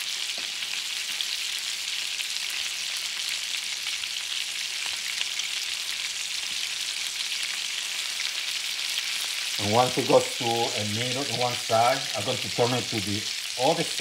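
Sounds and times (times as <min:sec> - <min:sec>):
meatballs sizzling in oil: 0:00.0 - 0:14.0.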